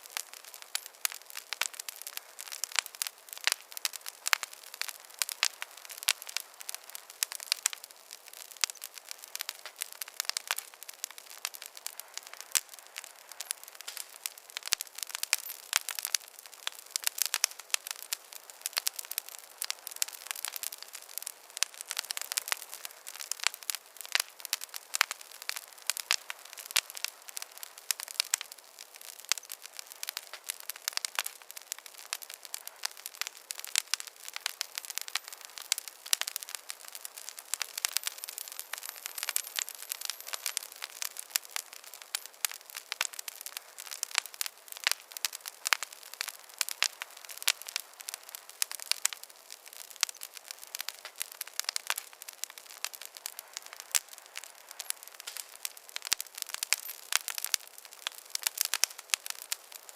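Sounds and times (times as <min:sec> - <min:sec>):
faint hiss: 0:00.0 - 0:59.9
wood fire crackling: 0:00.0 - 0:59.9.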